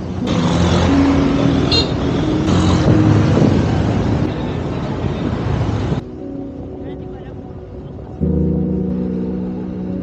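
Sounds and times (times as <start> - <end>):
vehicle road and engine noise: 0.0 - 10.0.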